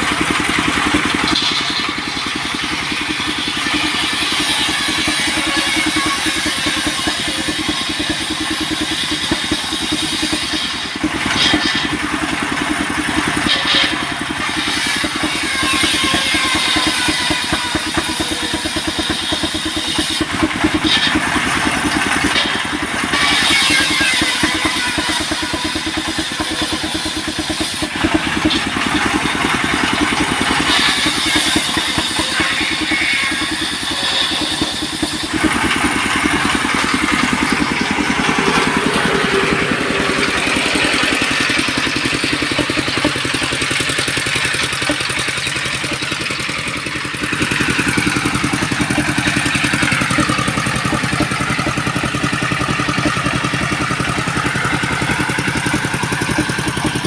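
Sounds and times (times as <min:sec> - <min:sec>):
saw whining through wood: 0:00.0 - 0:57.0
sawmill engine running: 0:00.0 - 0:57.0.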